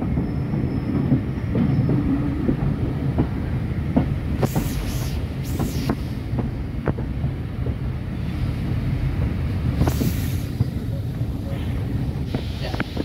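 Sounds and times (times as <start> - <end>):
train carriage rumbling: 0.0 - 13.0
wind buffeting microphone: 0.0 - 13.0.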